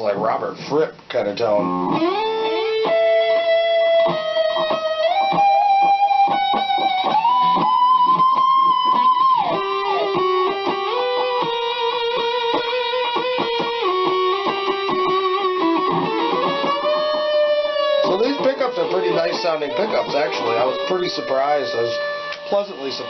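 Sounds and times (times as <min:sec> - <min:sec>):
electric guitar sustained sliding notes: 0:01.6 - 0:23.0
quick picked guitar notes: 0:01.6 - 0:23.0.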